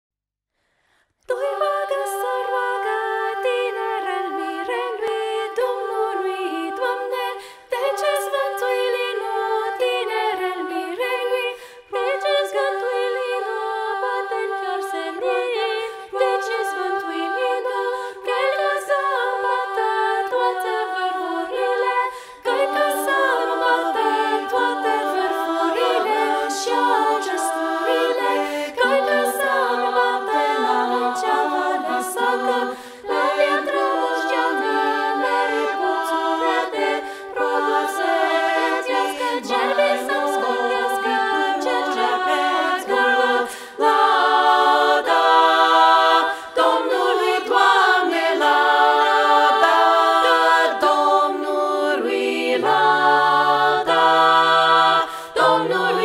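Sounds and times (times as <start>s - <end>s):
women singing a cappella: 1.2s - 56.0s.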